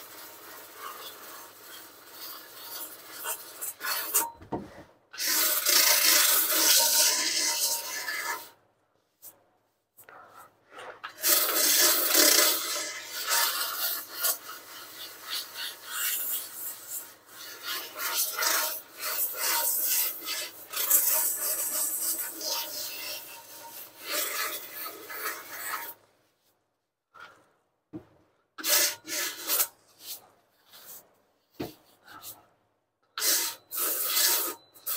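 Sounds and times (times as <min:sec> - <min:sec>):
sandpaper rasping on filler: 0:00.0 - 0:04.3, 0:05.2 - 0:08.6, 0:10.2 - 0:26.1, 0:28.6 - 0:32.5, 0:33.2 - 0:34.9.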